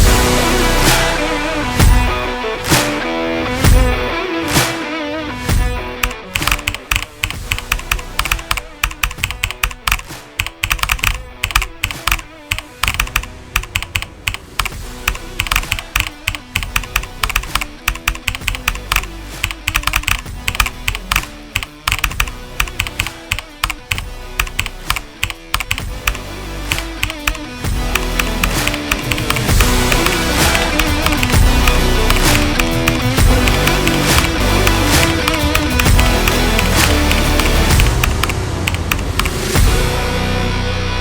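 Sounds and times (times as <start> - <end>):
background music: 0.0 - 41.0
mechanical keyboard typing: 6.0 - 39.4.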